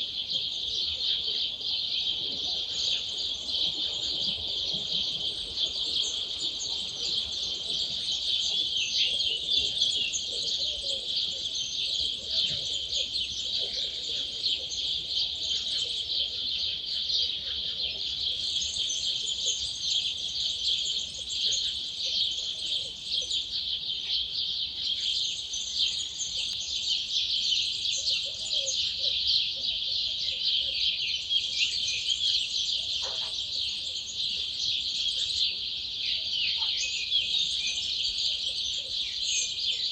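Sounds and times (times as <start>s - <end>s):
many birds chirping and trilling: 0.0s - 39.9s.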